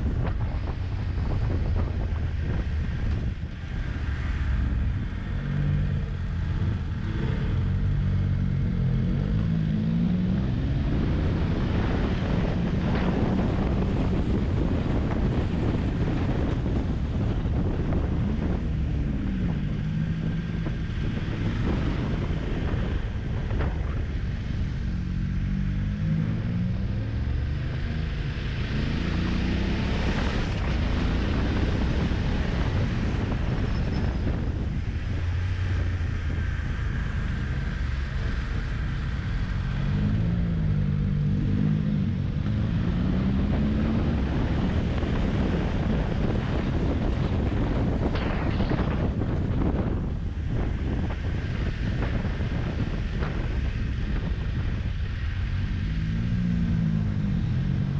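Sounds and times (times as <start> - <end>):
wind noise on microphone: 0.0 - 57.9.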